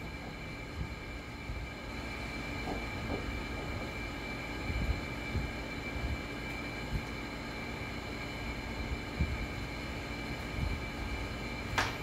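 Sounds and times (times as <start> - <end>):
high constant whine: 0.0 - 12.0
machine hum: 0.0 - 12.0.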